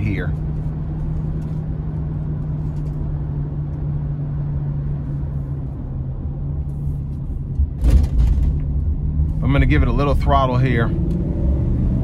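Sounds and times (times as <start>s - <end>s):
road rumble: 0.0s - 12.0s
van engine humming: 0.0s - 12.0s.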